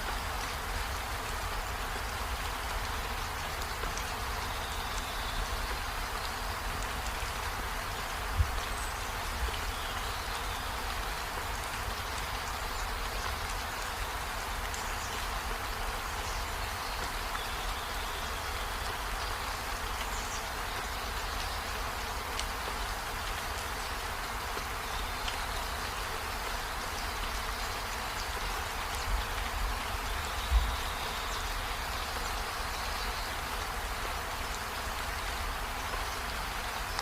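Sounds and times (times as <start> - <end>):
steady rainfall: 0.0 - 37.0.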